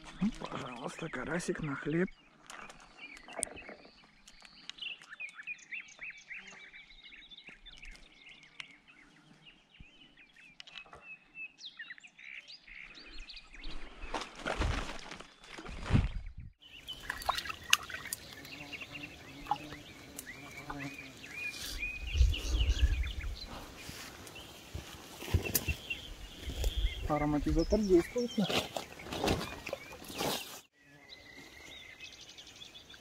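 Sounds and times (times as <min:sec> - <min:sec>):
small birds chirping: 0:00.0 - 0:14.4, 0:15.2 - 0:33.0.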